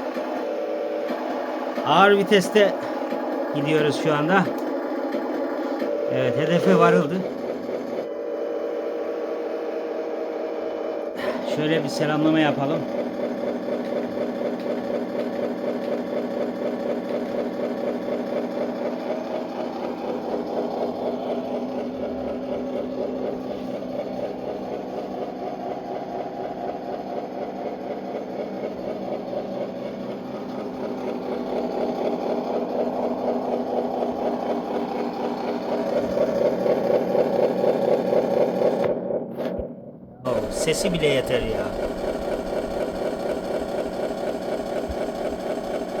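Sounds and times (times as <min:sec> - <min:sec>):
simulated truck engine running: 0:00.0 - 0:46.0.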